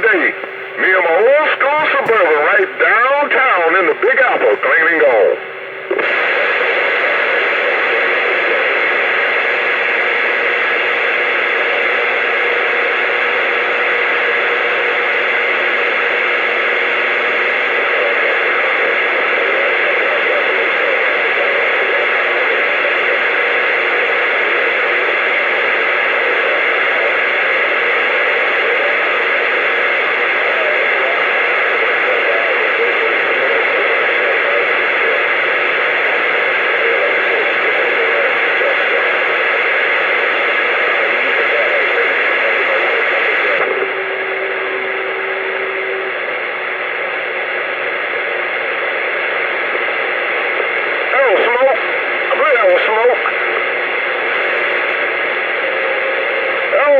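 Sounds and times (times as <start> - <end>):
radio static hiss: 0.0 - 56.9.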